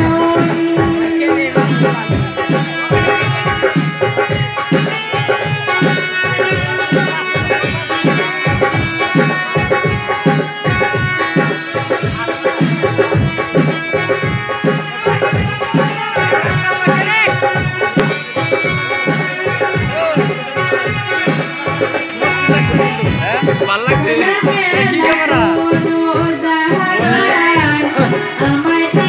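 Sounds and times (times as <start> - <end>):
dhol drum beating: 0.0 - 29.0
held keyboard chords: 0.0 - 29.0.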